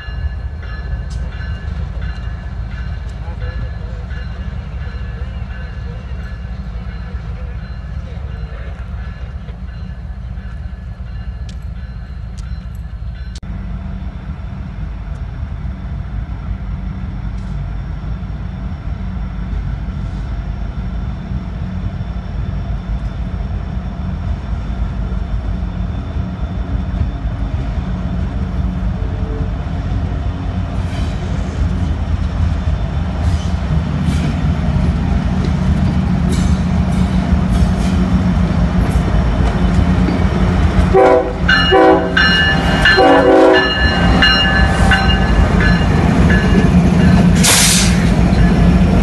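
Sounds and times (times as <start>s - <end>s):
diesel locomotive rumble: 0.0s - 49.0s.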